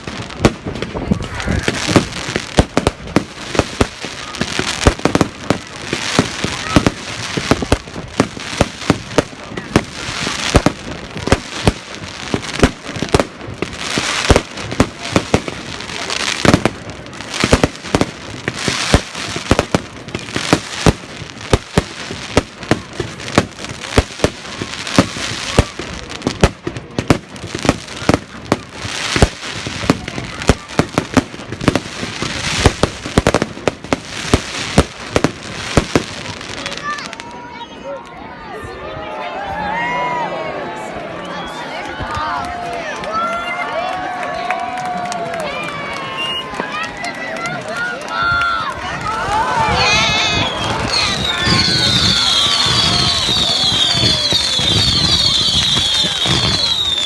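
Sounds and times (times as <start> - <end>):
fireworks bangs: 0.0 - 37.8, 44.1 - 57.0
crackling hiss of fireworks: 0.0 - 38.0, 41.6 - 57.0.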